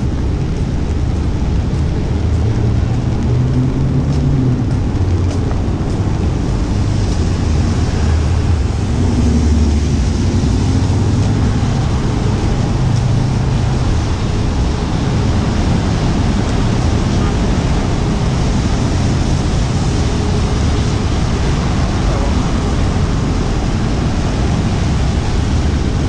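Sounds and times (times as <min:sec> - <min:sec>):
car engines rumbling: 0:00.0 - 0:26.0
tyres on wet pavement: 0:00.0 - 0:26.0
rain hiss: 0:03.9 - 0:26.0.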